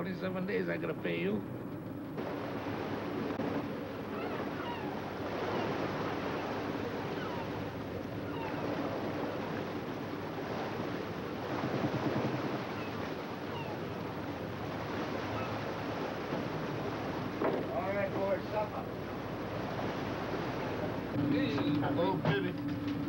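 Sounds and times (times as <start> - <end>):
sea washing around boat: 0.2 - 23.0.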